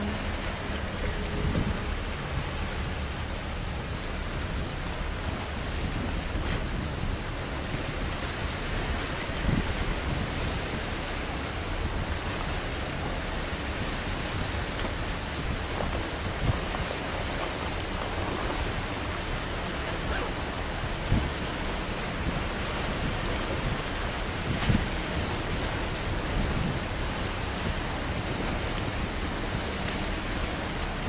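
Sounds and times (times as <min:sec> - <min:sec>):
harbour water: 0:00.0 - 0:31.0
wind: 0:00.0 - 0:31.0
wind buffets on microphone: 0:00.0 - 0:31.0.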